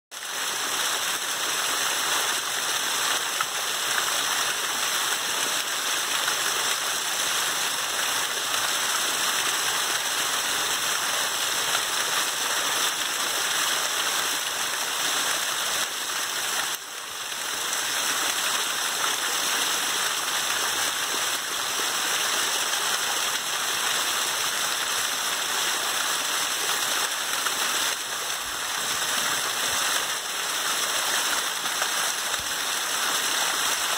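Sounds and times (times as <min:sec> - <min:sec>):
water splashing over boulders: 0:00.2 - 0:33.9.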